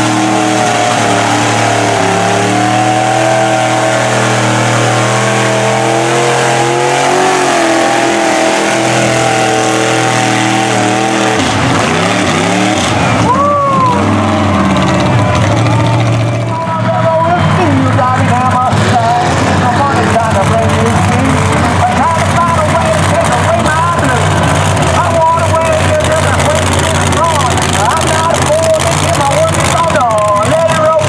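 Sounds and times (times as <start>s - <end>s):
tires churning through mud: 0.0s - 31.0s
truck engine revving: 0.0s - 31.0s.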